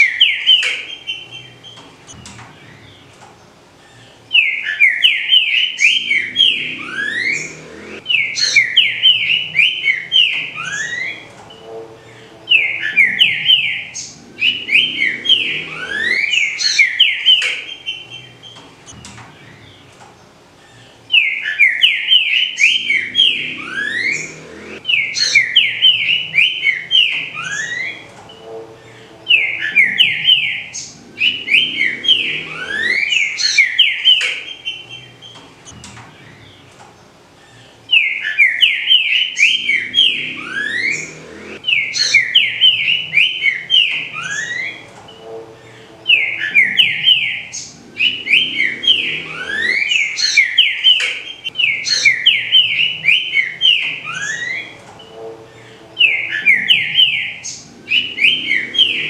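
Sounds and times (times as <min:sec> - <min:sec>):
bird singing whistled notes: 0:04.3 - 0:19.0, 0:21.1 - 0:35.8, 0:37.9 - 0:59.0.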